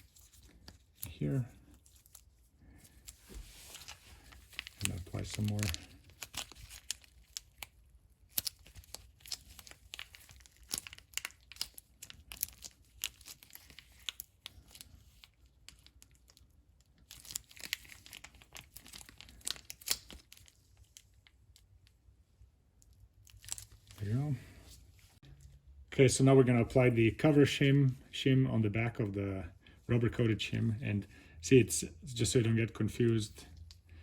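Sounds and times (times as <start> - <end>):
crinkling and crackling: 0.0 - 31.0.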